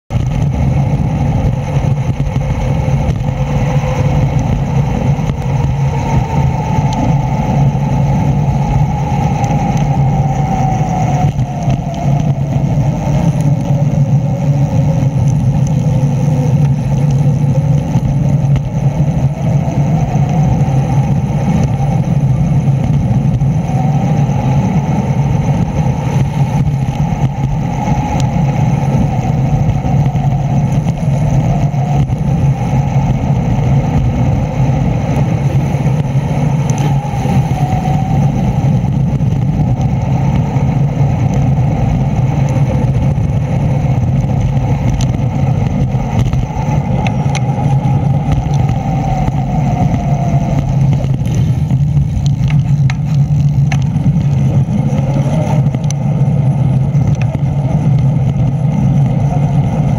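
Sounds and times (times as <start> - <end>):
motorbike running hum and whine: 0.0 - 59.9.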